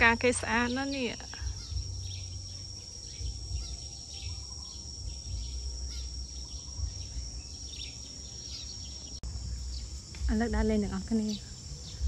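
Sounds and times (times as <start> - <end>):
insects droning: 0.0 - 12.0
wind rumble on microphone: 0.0 - 12.0.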